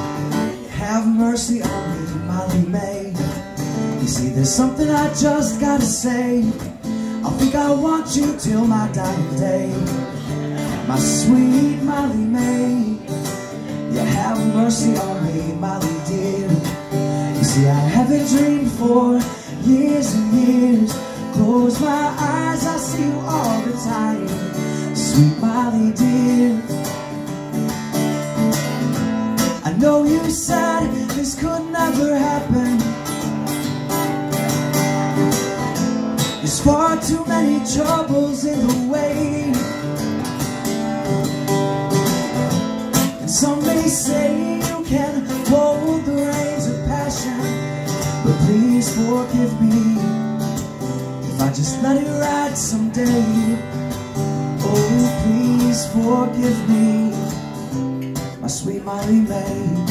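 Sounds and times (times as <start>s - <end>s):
man singing: 0.0s - 27.4s, 29.4s - 33.5s, 36.2s - 40.2s, 43.0s - 59.9s
acoustic guitars strumming: 0.0s - 59.9s.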